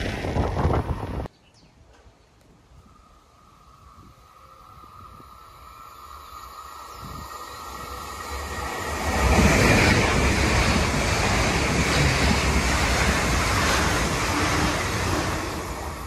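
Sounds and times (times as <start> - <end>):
high-speed train passing: 0.0 - 1.3, 1.9 - 16.0.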